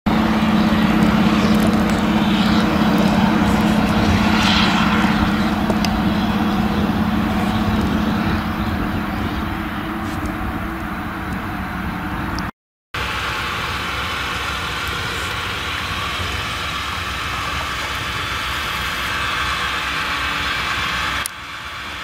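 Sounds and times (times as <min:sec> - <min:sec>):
engine droning steadily: 0:00.1 - 0:22.0.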